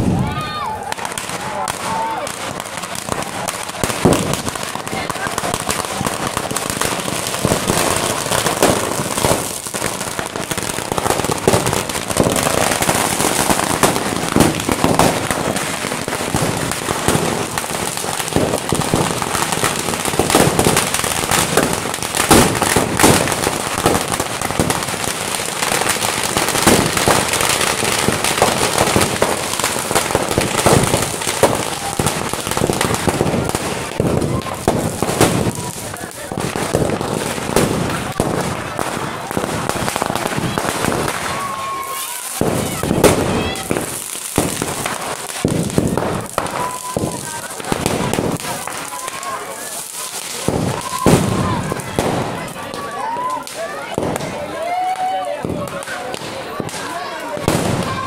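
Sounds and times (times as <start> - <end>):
firecracker bangs: 0.0 - 58.0
firecrackers crackling: 0.0 - 58.0.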